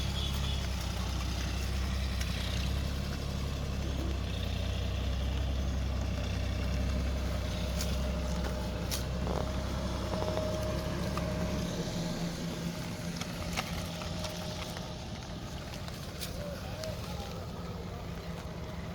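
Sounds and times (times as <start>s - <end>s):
engine humming: 0.0s - 18.9s.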